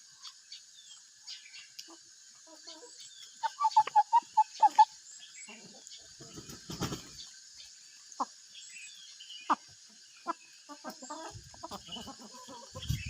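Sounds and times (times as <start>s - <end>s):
chickens clucking: 1.7s - 8.5s, 9.3s - 13.0s.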